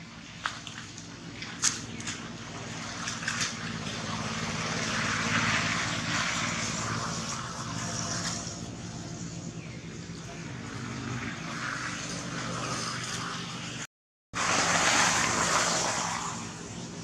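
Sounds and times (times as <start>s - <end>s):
distant motor engine droning: 0.0s - 17.0s.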